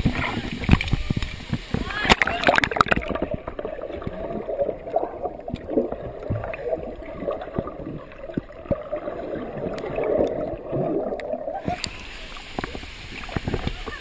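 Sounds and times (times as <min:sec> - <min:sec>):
water sloshing and gurgling: 0:00.0 - 0:14.0.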